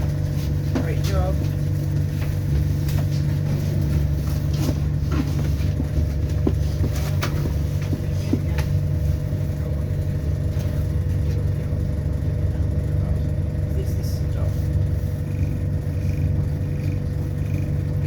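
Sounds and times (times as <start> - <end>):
bus drivetrain rumble: 0.0 - 18.0
interior rattles and clicks: 0.0 - 18.0.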